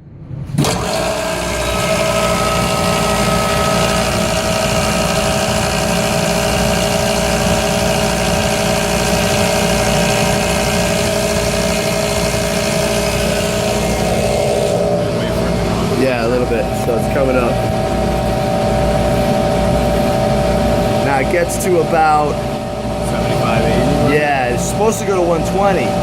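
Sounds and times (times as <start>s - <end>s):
air compressor running: 0.5s - 26.0s.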